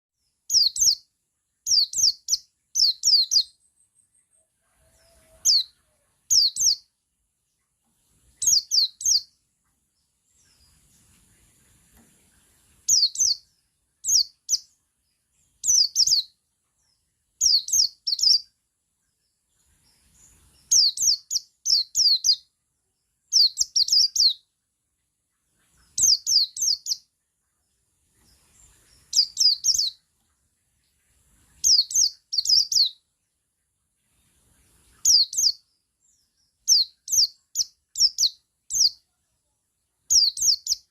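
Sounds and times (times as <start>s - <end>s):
bird chirping song: 0.1s - 40.9s.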